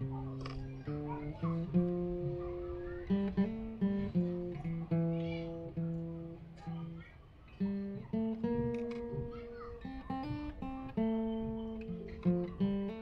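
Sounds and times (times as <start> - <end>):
acoustic guitar picking notes: 0.0 - 13.0.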